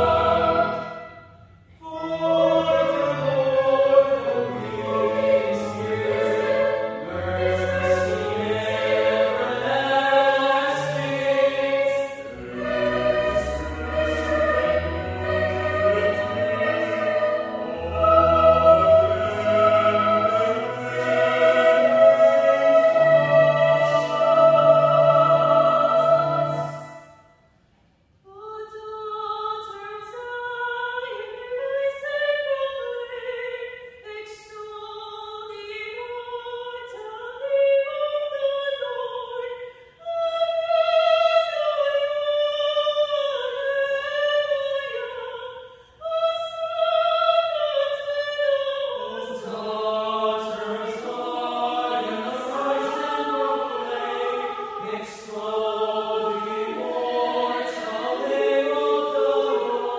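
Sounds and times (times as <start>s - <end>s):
mixed choir singing a cappella: 0.0s - 27.2s, 35.4s - 59.9s.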